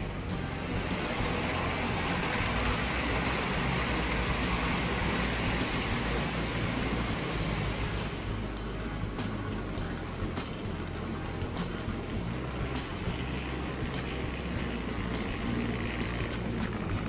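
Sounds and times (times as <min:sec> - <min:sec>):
low hum: 0:00.0 - 0:17.0
toy train motor whirring: 0:00.0 - 0:17.0.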